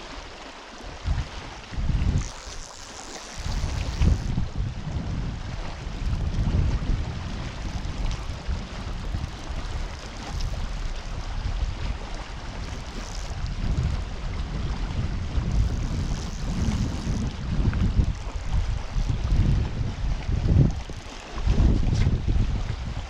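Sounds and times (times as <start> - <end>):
flowing river water: 0.0 - 23.0
wind buffeting microphone: 0.8 - 23.0.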